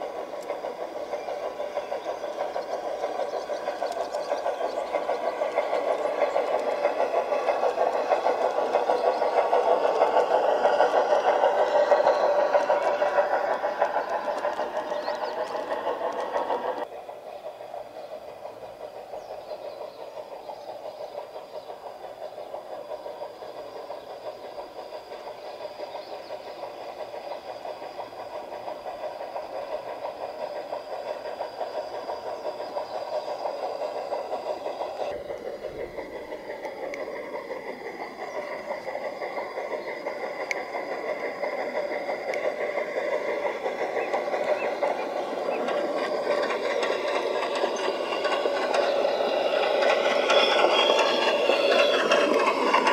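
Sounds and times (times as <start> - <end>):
model train rattling with whine: 0.0 - 52.9.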